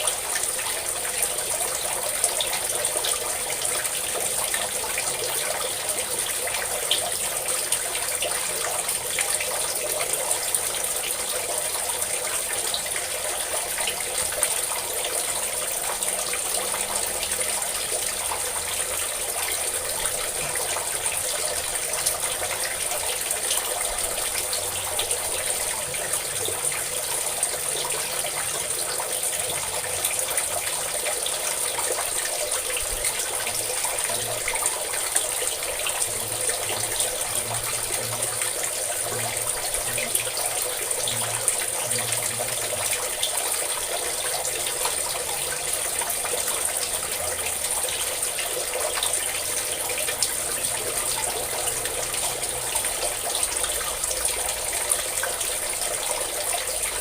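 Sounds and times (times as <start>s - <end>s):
water pouring and splashing: 0.0s - 57.0s.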